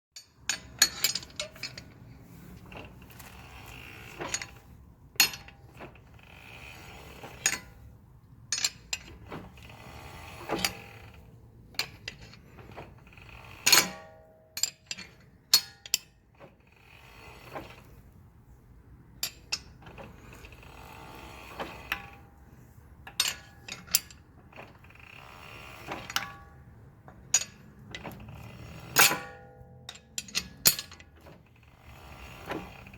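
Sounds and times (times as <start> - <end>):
brakes scraping: 0.2 - 14.1, 14.7 - 32.9.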